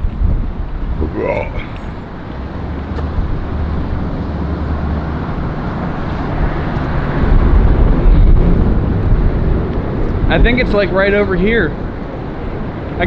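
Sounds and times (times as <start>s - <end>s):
road traffic passing: 0.0s - 13.0s
wind buffeting microphone: 0.0s - 13.0s.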